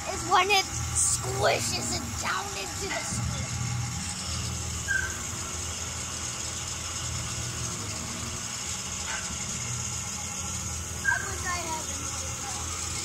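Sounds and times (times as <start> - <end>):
pump jack mechanical hum: 0.0 - 13.0.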